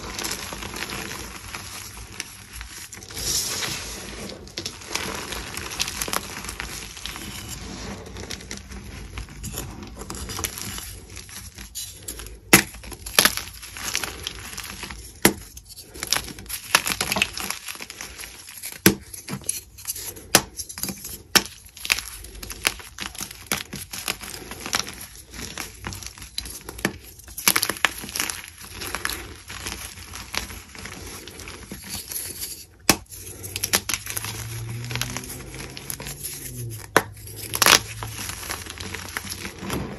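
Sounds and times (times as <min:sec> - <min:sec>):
chalk crumbling in hands: 0:00.0 - 0:39.9.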